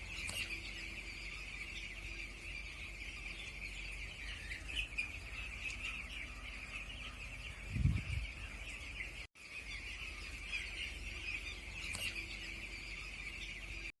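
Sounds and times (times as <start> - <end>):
chickens chattering: 0.0 - 13.9.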